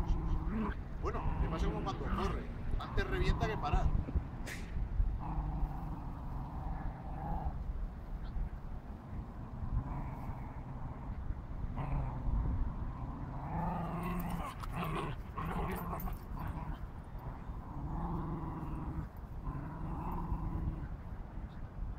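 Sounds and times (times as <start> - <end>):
dog play-growling: 0.0 - 4.4, 5.0 - 21.3.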